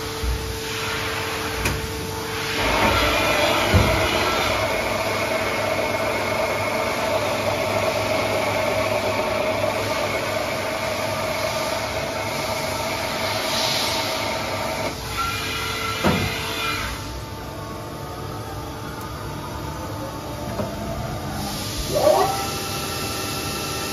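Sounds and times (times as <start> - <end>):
machine whine: 0.0 - 23.9.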